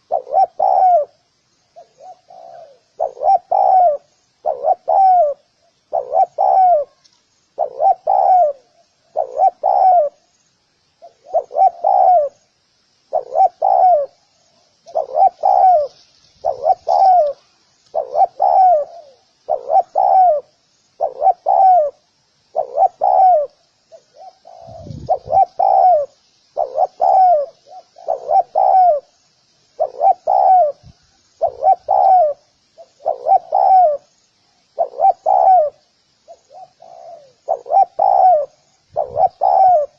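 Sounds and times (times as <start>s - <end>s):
dove cooing: 0.0s - 10.3s, 11.0s - 12.5s, 13.1s - 29.2s, 29.8s - 39.9s
faint high hiss: 0.0s - 39.9s.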